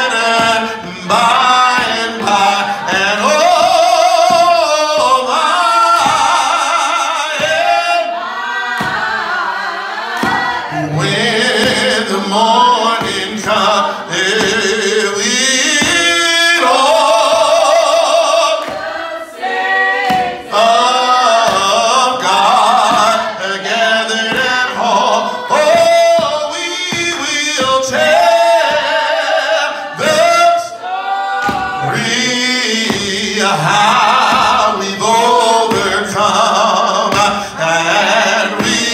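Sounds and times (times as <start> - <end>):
man singing into microphone: 0.0 - 8.2, 10.6 - 18.8, 20.4 - 38.9.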